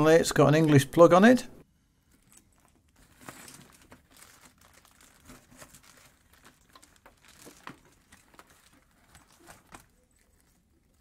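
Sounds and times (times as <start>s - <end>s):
plastic packaging crinkling: 2.0s - 11.0s.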